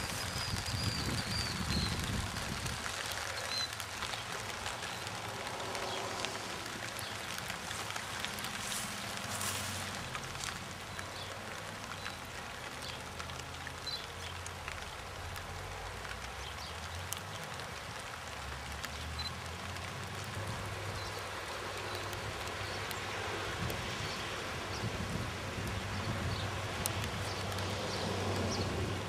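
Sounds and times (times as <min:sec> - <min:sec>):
even outdoor hiss: 0:00.0 - 0:29.0.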